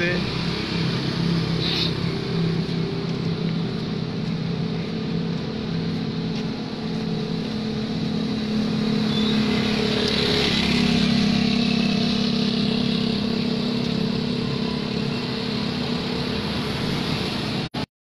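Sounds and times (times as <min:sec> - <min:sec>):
passing vehicle: 0:00.0 - 0:17.8
tyre noise on wet road: 0:00.0 - 0:17.8
vehicle engine running: 0:00.0 - 0:17.8.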